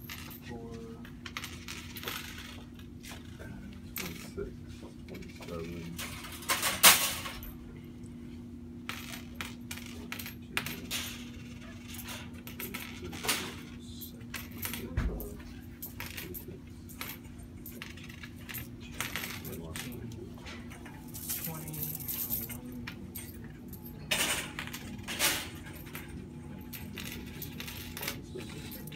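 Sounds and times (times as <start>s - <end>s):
coins clinking: 0.0s - 4.4s, 5.2s - 7.6s, 8.8s - 28.9s
steady low hum: 0.0s - 28.9s.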